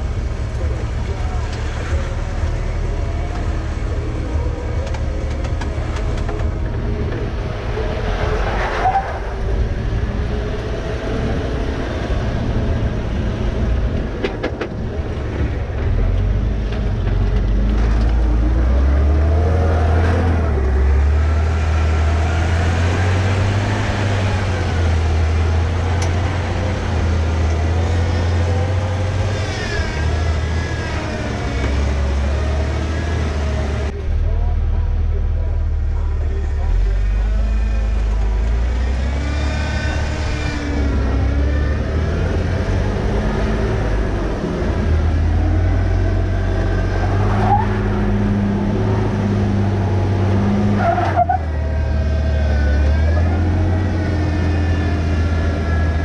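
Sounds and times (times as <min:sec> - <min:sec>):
vehicle engine running under load: 0:00.0 - 0:56.0.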